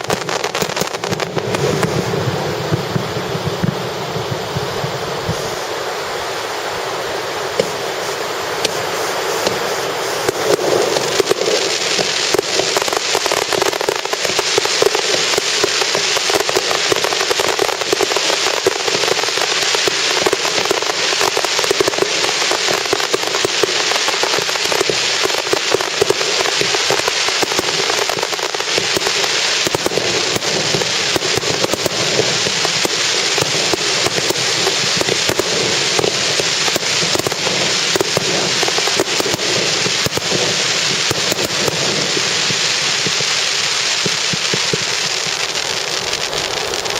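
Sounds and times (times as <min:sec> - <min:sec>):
fireworks crackling and popping: 0:00.0 - 0:46.9.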